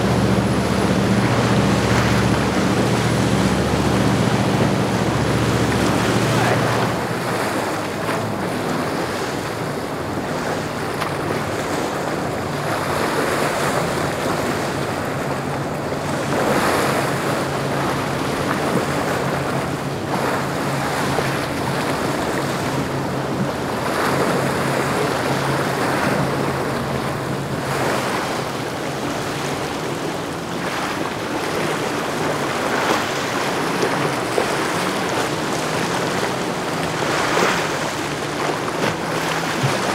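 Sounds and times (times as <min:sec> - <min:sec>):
boat engine drone: 0:00.0 - 0:39.9
waves washing: 0:00.0 - 0:39.9.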